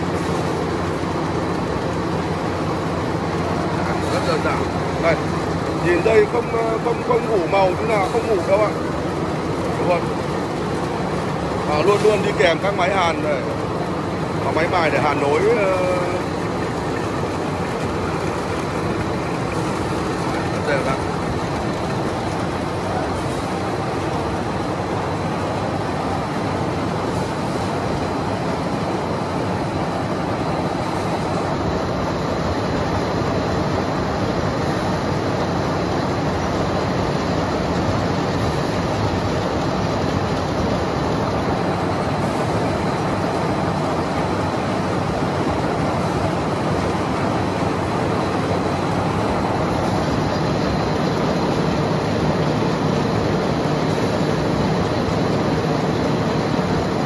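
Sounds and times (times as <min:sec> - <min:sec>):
wire-drawing machine running: 0:00.0 - 0:57.0.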